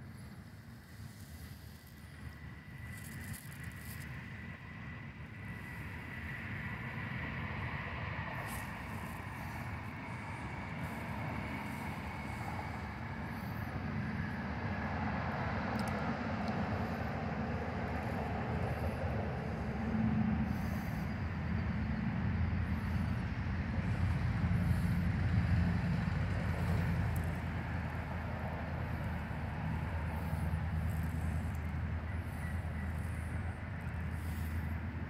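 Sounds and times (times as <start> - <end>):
low rumble with hiss: 0.0 - 35.0.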